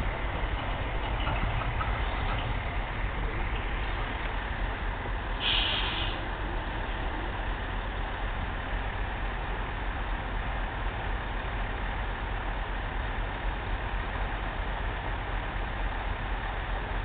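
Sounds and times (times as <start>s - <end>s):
tractor engine pulling harvester: 0.0s - 17.0s.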